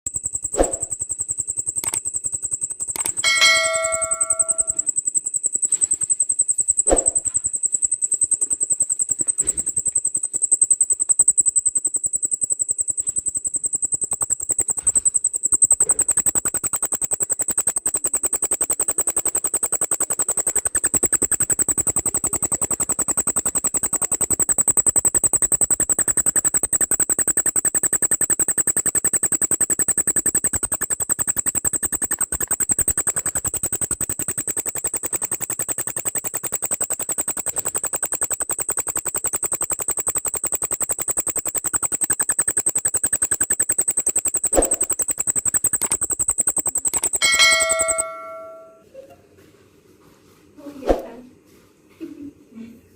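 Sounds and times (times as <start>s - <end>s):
cricket trilling: 0.1s - 48.5s.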